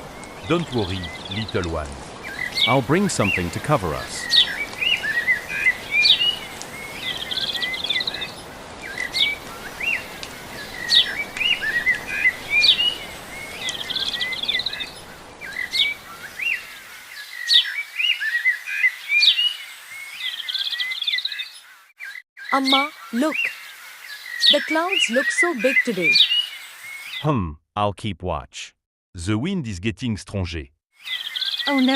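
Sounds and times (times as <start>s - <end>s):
songbirds chirping and trilling: 0.0s - 27.3s, 31.0s - 31.9s.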